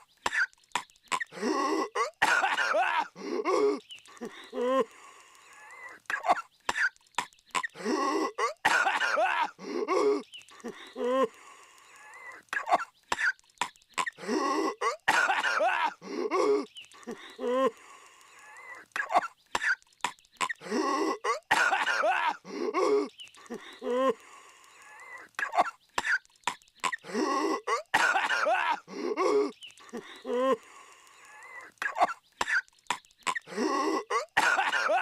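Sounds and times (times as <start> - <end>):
cartoon man coughing and wheezing: 0.3 - 5.0, 5.7 - 7.0, 7.6 - 11.4, 12.2 - 13.4, 14.0 - 17.8, 18.9 - 24.2, 25.2 - 30.8, 31.5 - 35.0.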